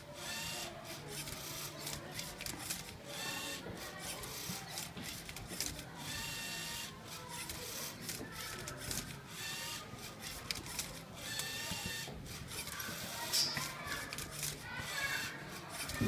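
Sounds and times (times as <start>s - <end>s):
servo motors whirring: 0.0s - 16.0s.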